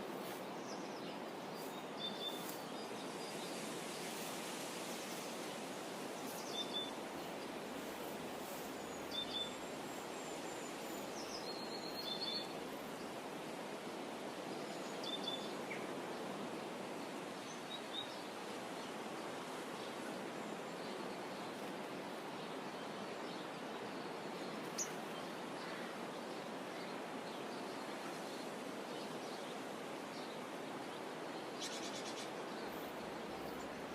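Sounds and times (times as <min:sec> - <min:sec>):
steady background hiss: 0:00.0 - 0:33.9.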